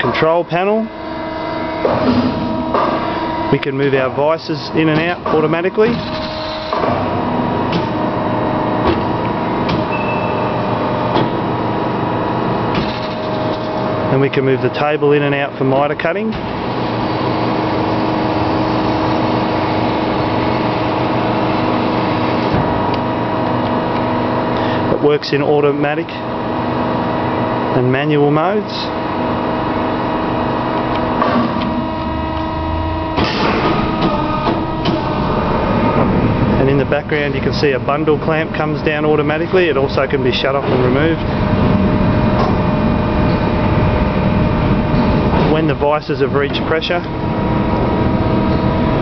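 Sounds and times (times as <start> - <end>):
mechanical hum of bandsaw vices: 0.0 - 49.0.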